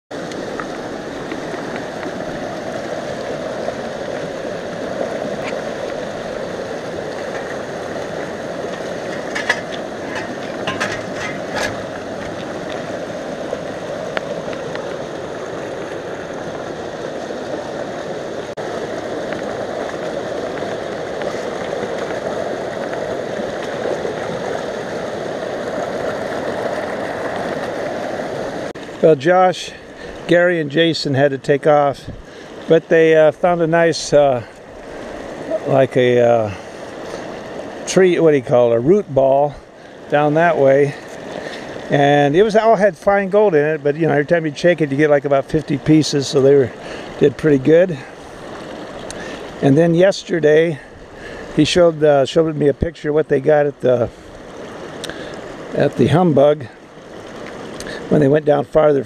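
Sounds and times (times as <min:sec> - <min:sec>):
river water rushing: 0:00.1 - 0:59.0.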